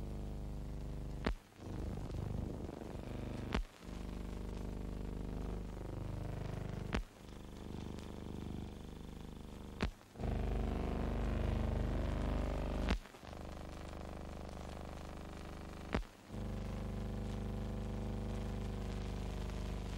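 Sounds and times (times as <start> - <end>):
film soundtrack hum and hiss: 0.0 - 19.9.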